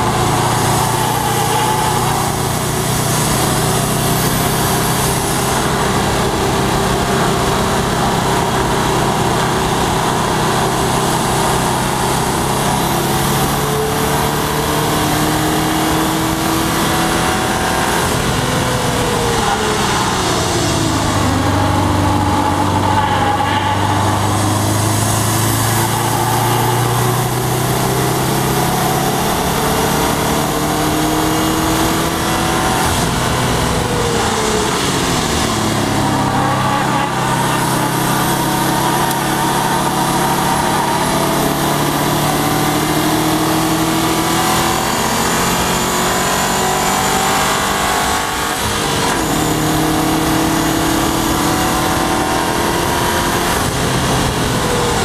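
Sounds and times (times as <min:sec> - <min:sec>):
car engine pulling at speed: 0:00.0 - 0:55.0
steady rush of noise: 0:00.0 - 0:55.0.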